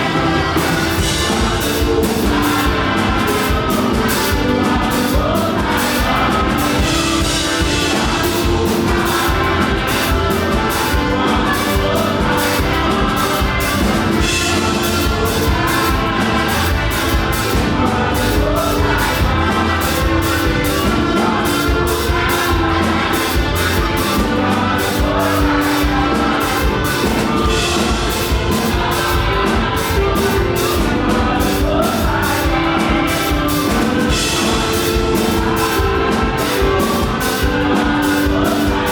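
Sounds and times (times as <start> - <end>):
band playing fast drum beat: 0.0 - 38.9
voices singing: 0.0 - 38.9.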